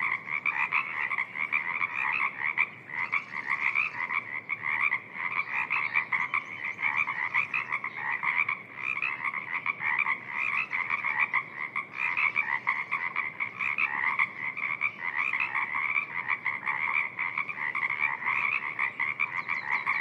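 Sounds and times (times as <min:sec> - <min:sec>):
chorus of frogs croaking: 0:00.0 - 0:20.0.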